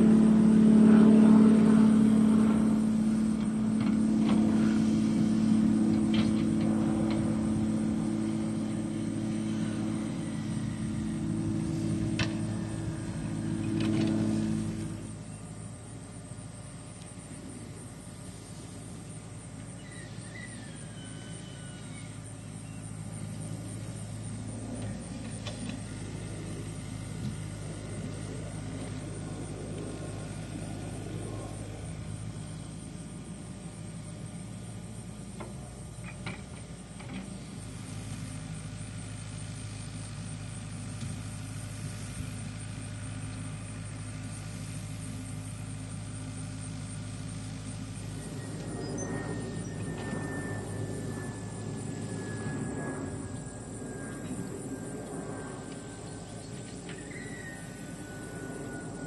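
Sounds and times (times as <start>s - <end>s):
low mechanical drone: 0.0s - 59.0s.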